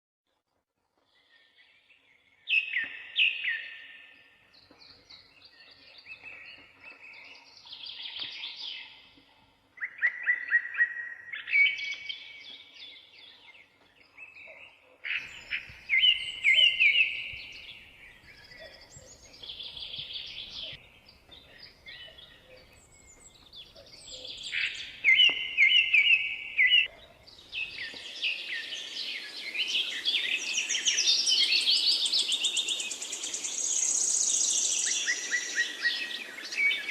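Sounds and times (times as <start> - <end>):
songbirds singing: 1.0 - 36.9.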